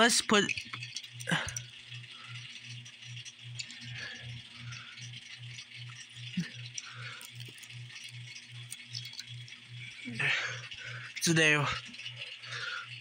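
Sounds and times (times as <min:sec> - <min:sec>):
low pulsing hum: 0:00.0 - 0:13.0
toy cars clicking and rustling: 0:00.0 - 0:13.0.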